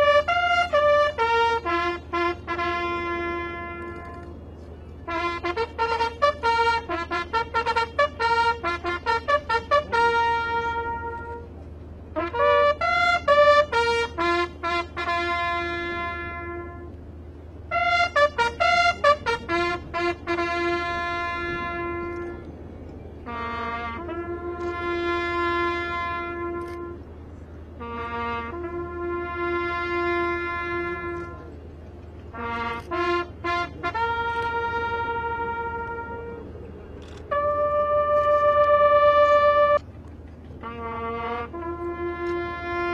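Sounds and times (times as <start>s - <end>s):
bugle call: 0.0s - 22.5s, 23.2s - 27.1s, 27.7s - 39.8s, 40.6s - 42.9s.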